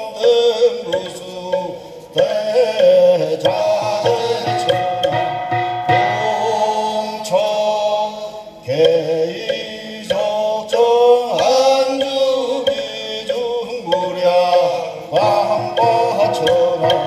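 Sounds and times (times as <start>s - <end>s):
chanting in long held notes: 0.0s - 17.0s
sharp percussion knocks: 0.0s - 17.0s.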